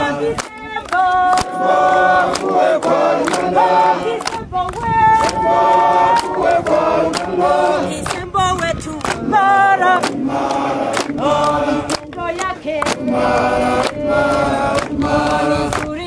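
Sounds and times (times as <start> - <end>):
soldiers singing in chorus: 0.0 - 16.0
hand clapping in time: 0.3 - 16.0.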